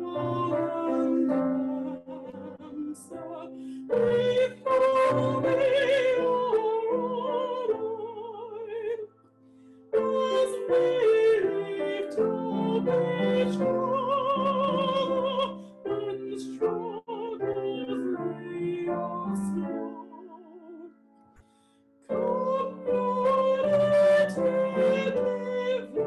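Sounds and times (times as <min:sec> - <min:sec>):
woman singing classically: 0:00.0 - 0:09.1, 0:10.0 - 0:20.9, 0:22.1 - 0:26.0.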